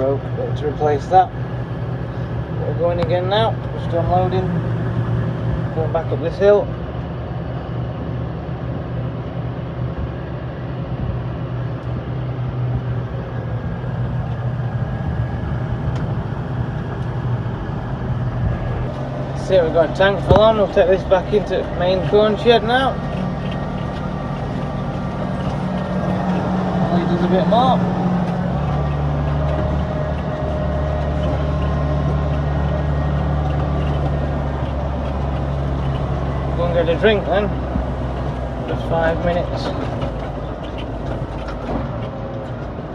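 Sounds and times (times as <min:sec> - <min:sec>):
tractor engine droning: 0:00.0 - 0:42.9.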